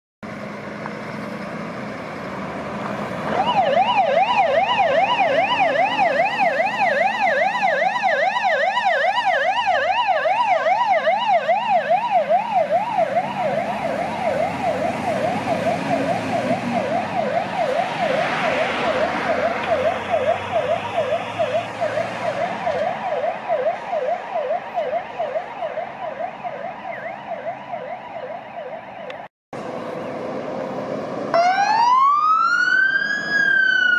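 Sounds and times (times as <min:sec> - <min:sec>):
fire engine siren yelping: 0:01.6 - 0:33.9.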